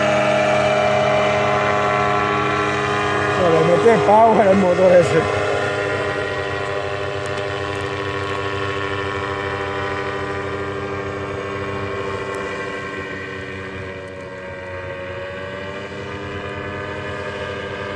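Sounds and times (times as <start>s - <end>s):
paramotor engine droning: 0.0s - 17.9s.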